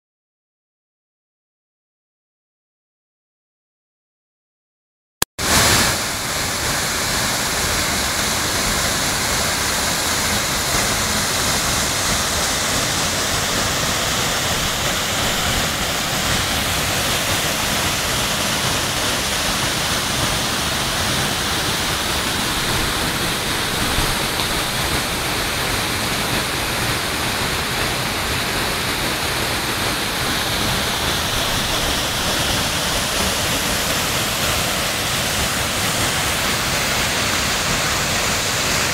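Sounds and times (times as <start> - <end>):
waterfall rushing: 5.4 - 38.9.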